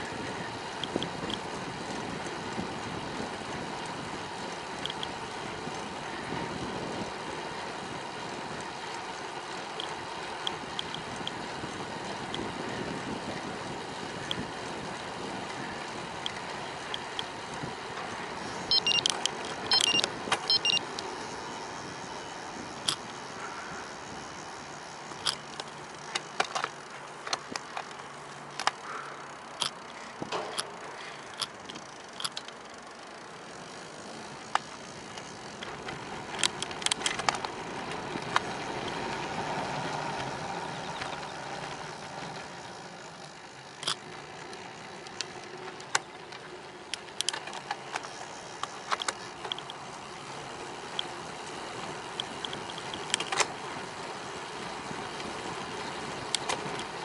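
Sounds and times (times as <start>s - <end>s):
bicycle clicks and rattles: 0.0s - 57.0s
bicycle tyre and wind noise: 0.0s - 57.0s.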